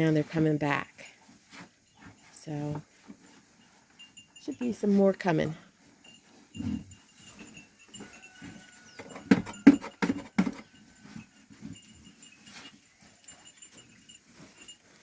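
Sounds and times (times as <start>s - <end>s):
sheep bells tinkling: 0.6s - 15.0s.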